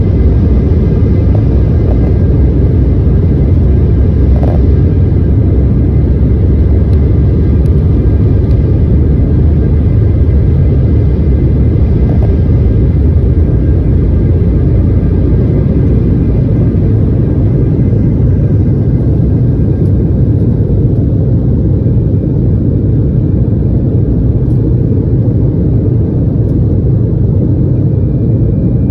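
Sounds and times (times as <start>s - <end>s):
faint engine tones: 0.0s - 28.9s
vehicle low rumble: 0.0s - 28.9s.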